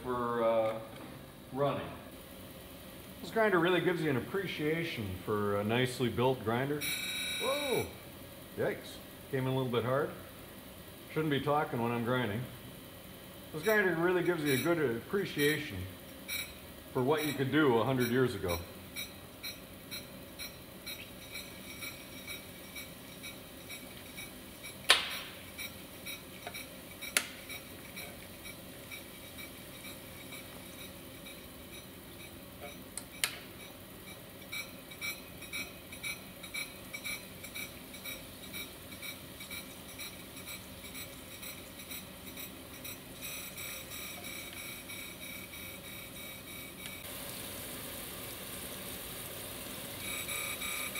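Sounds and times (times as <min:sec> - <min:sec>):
grinder hissing with soft ticks: 0:00.1 - 0:50.9.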